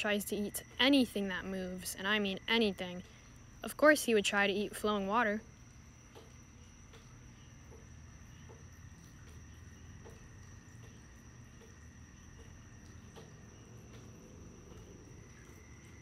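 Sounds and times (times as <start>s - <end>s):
soft water drips: 0.0s - 16.0s.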